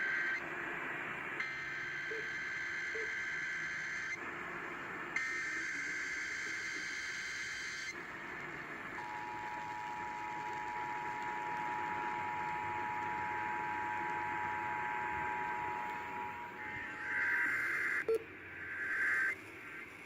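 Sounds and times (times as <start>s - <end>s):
radio background hiss: 0.0s - 20.0s.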